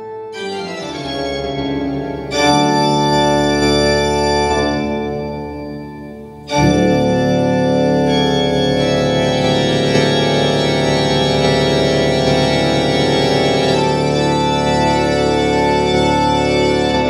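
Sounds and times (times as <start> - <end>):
organ-like chords through speaker: 0.0 - 17.0.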